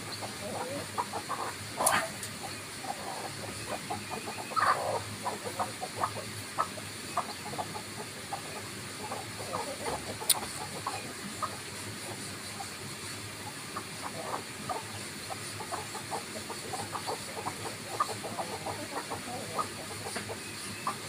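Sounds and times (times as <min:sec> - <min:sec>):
chickens clucking: 0:00.0 - 0:21.0
steady high hiss: 0:00.0 - 0:21.0.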